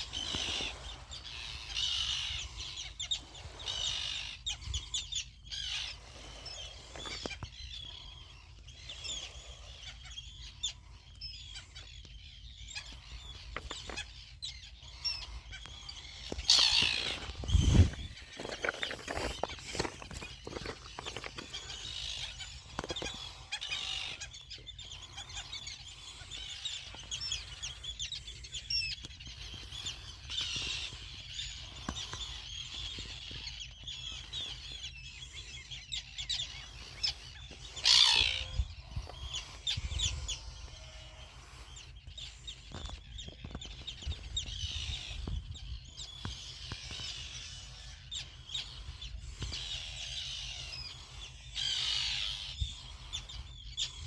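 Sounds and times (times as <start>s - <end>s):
terns calling: 0.0s - 54.0s.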